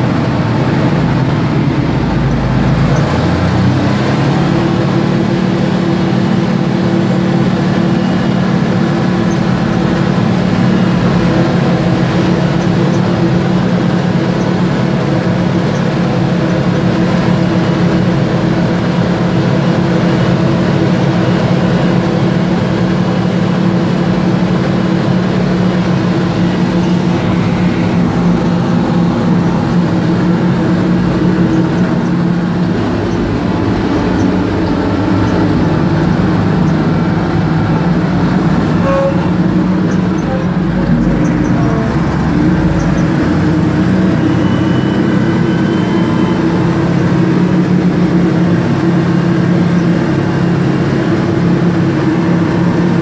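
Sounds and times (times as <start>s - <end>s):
diesel engines droning: 0.0s - 53.0s.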